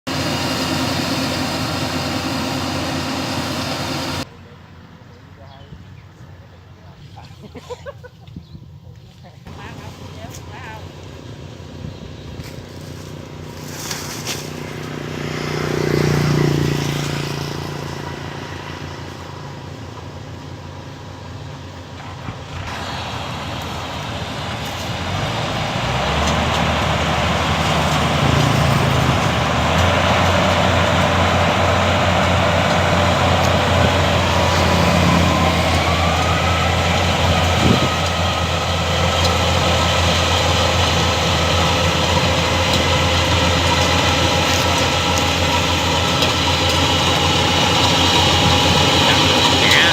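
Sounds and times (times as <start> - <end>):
combine harvester engine and threshing: 0.1 - 7.5, 8.9 - 49.9.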